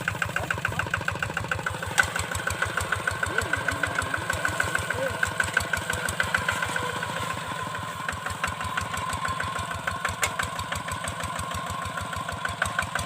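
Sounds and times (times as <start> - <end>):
diesel engine chugging: 0.0 - 13.0
thin engine whine: 1.8 - 13.0.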